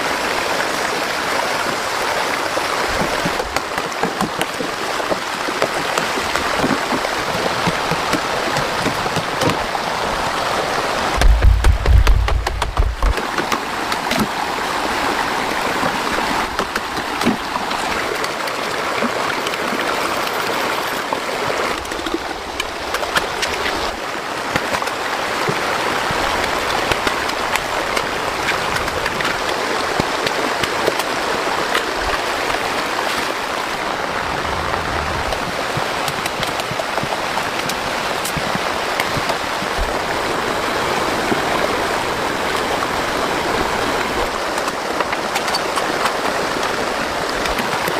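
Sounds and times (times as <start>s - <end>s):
floodwater rushing in stream: 0.0s - 47.9s.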